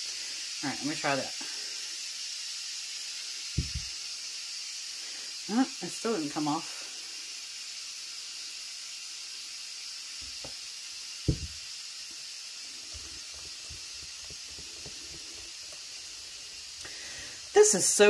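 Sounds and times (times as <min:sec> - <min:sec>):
pressure cooker venting steam: 0:00.0 - 0:18.0.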